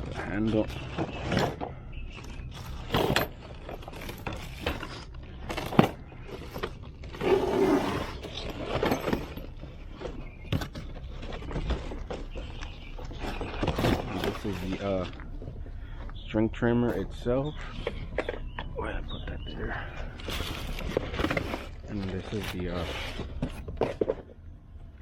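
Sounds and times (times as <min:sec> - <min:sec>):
parts scraping and knocking: 0:00.0 - 0:24.6.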